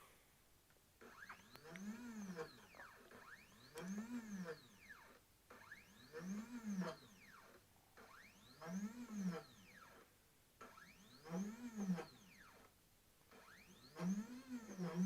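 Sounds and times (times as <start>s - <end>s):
stepper motor whine: 1.0s - 10.0s, 10.7s - 12.7s, 13.3s - 15.0s.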